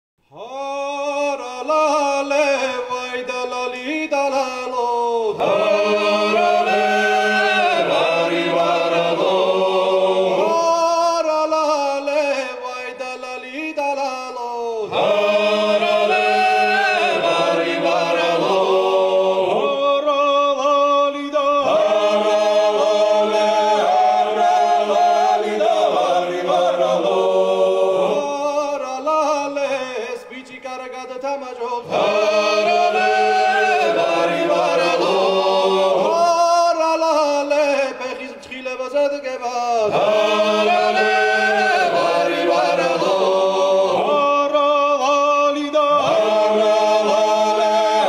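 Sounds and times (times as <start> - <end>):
male choir singing a cappella: 0.3 - 48.0.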